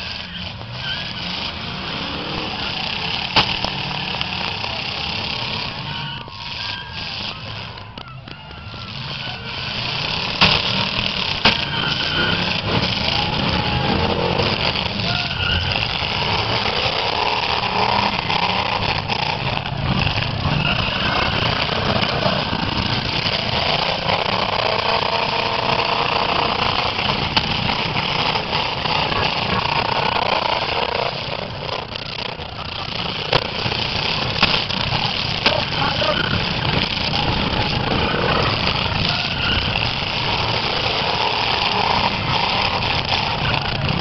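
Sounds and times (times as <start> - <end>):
car engines running hard: 0.0 - 44.0
cars crashing: 0.0 - 44.0
crowd voices: 0.0 - 44.0.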